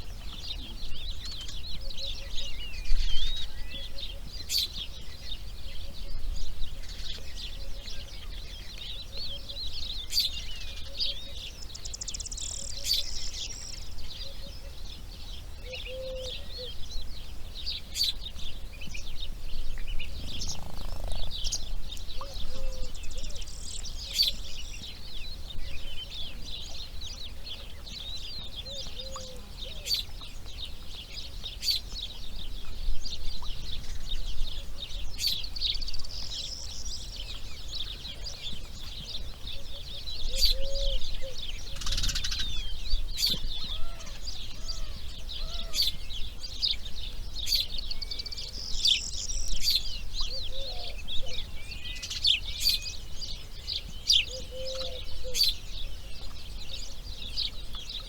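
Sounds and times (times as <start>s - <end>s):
birds chirping: 6.8s - 58.0s.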